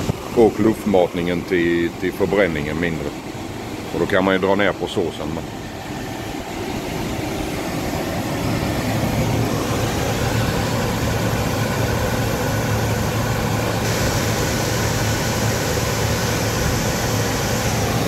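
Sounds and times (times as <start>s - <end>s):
stove blower fan rushing: 0.0s - 18.0s.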